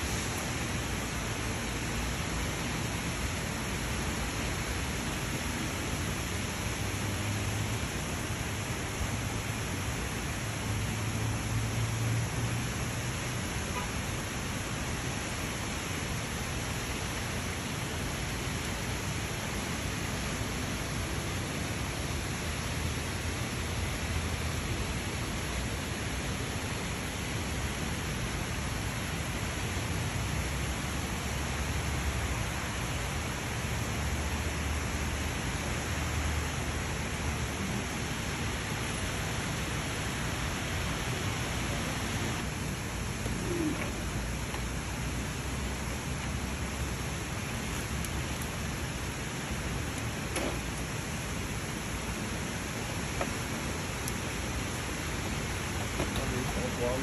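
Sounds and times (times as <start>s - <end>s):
rain hissing: 0.0s - 57.0s.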